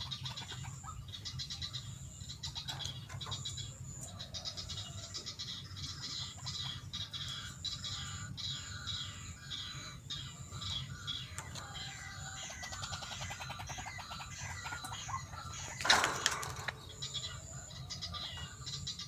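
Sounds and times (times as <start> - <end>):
fast rattling bird call: 0.0 - 19.0
steady low hum: 0.0 - 19.0.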